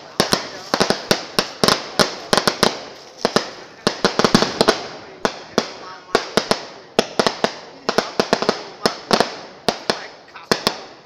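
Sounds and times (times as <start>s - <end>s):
firecrackers going off: 0.0s - 11.0s.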